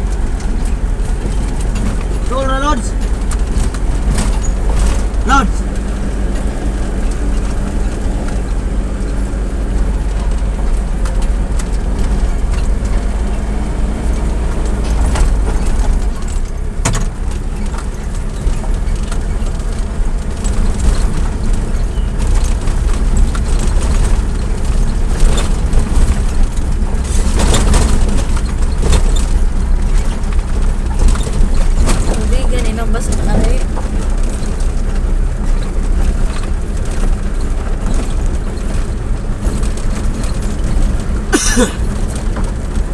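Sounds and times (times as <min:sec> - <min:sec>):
vehicle engine rumble: 0:00.0 - 0:42.9.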